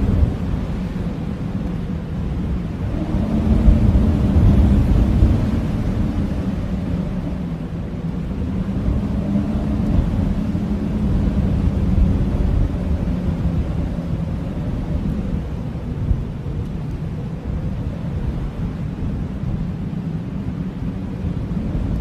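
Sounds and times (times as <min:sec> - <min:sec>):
strong blizzard wind howling: 0:00.0 - 0:22.0.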